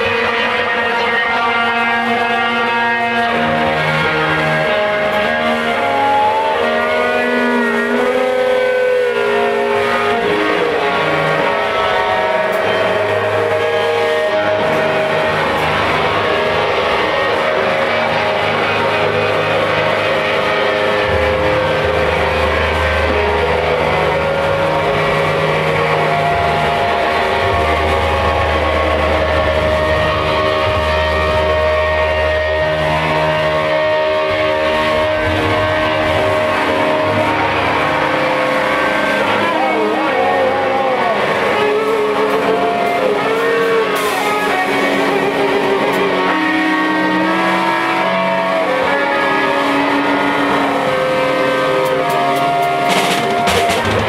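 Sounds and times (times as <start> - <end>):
electric bass low notes: 0.0 - 54.0
electric guitar bending tones: 0.0 - 54.0
live rock band: 0.0 - 54.0.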